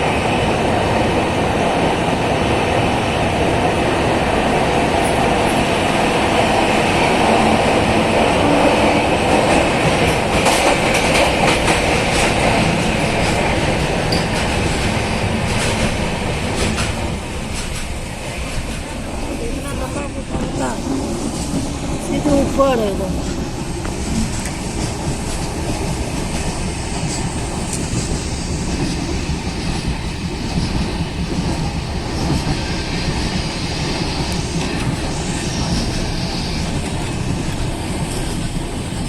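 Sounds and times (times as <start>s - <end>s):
train rumbling on rails: 0.0s - 39.0s.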